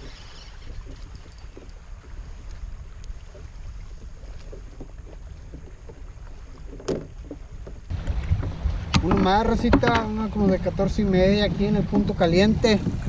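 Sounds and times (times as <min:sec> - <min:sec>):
small water splashes: 0:00.0 - 0:13.0
wind on microphone: 0:00.0 - 0:13.0.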